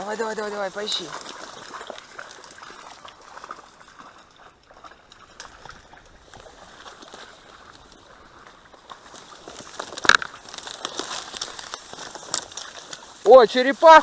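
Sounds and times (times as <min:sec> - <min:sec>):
dry reed stems rustling: 0:00.0 - 0:14.0
shallow water sloshing: 0:00.0 - 0:14.0
small crackles: 0:00.0 - 0:14.0.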